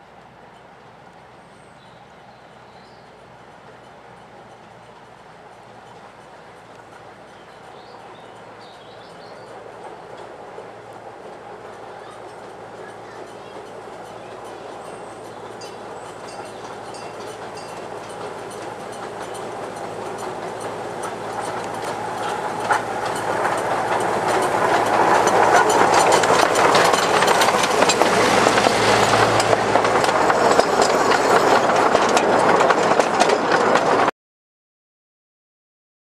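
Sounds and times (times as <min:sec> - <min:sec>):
miniature train passing: 0:00.0 - 0:34.1
wheels clicking over rail joints: 0:00.0 - 0:34.1.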